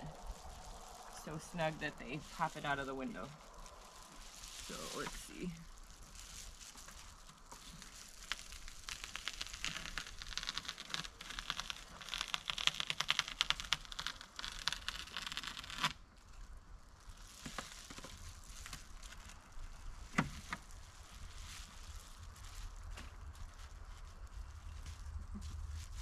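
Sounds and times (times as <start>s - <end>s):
insulation crinkles and clicks: 0.0s - 26.0s
foil insulation crackling as cut: 0.1s - 26.0s.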